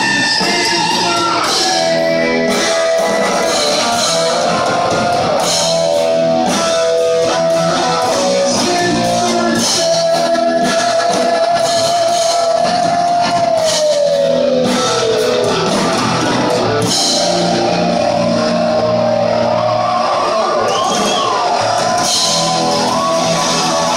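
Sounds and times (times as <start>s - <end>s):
drum kit: 0.0s - 23.9s
electric guitar: 0.0s - 23.9s.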